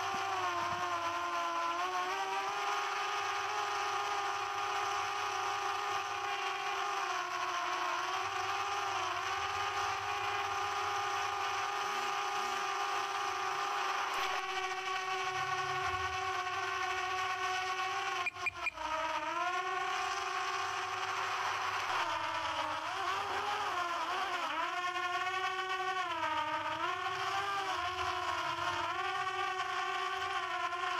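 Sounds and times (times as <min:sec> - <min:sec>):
drone propellers humming: 0:00.0 - 0:30.9.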